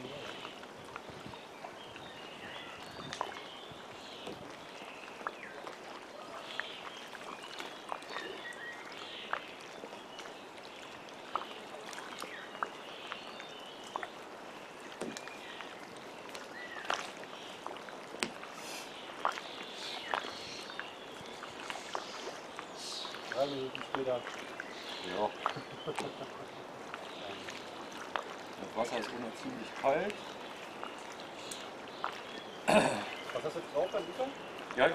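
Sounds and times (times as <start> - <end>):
birds chirping: 0.0 - 34.9
small waves lapping: 0.0 - 34.9.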